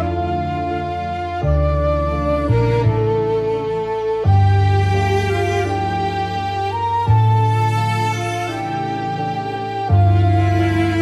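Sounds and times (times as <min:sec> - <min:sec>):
slow sad background music: 0:00.0 - 0:11.0.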